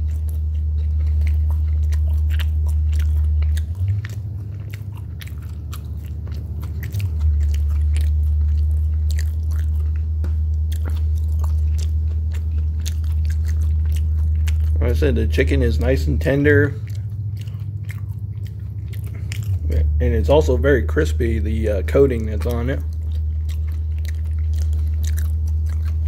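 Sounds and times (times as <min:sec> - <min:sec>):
person chewing crispy food: 0:00.0 - 0:26.0
steady low hum: 0:00.0 - 0:26.0.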